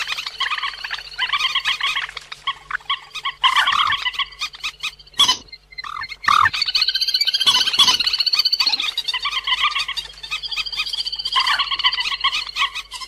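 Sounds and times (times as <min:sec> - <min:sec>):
bird chattering calls: 0:00.0 - 0:13.0.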